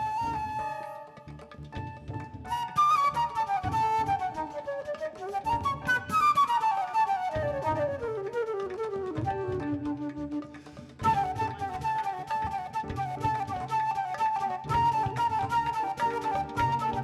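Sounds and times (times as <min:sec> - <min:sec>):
woodwind melody: 0:00.0 - 0:17.0.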